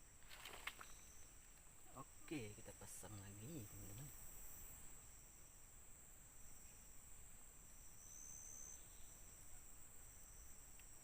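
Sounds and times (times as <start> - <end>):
faint insect drone: 0.0 - 11.0.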